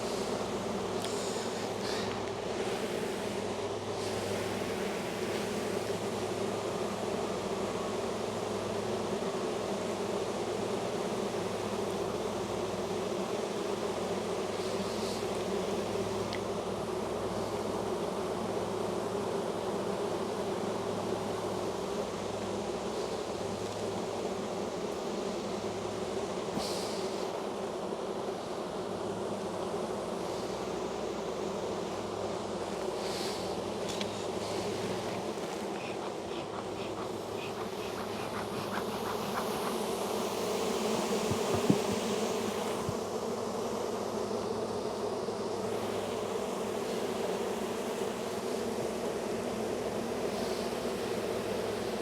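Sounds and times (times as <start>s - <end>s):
honey bees buzzing: 0.0s - 52.0s.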